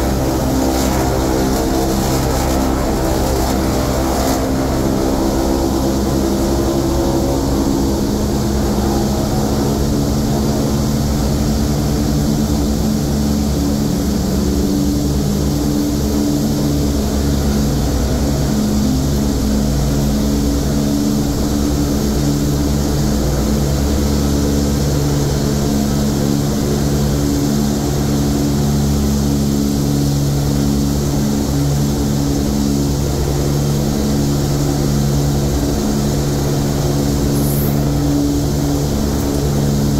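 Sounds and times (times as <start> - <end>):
aircraft propeller engines droning: 0.0 - 39.9.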